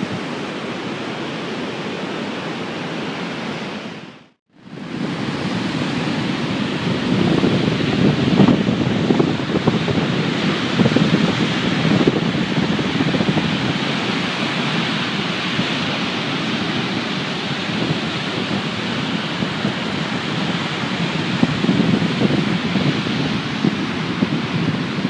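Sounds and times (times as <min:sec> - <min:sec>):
rough surf rushing: 0:00.0 - 0:25.0
wind gusting on microphone: 0:00.0 - 0:25.0.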